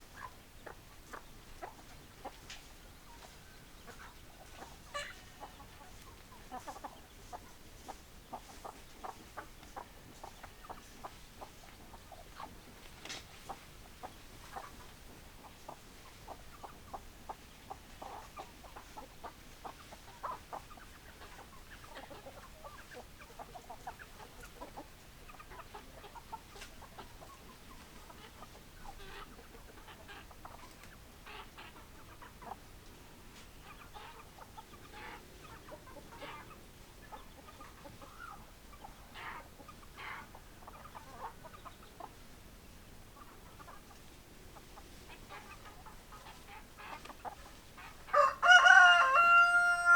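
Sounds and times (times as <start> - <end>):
hens clucking: 0.0 - 49.9.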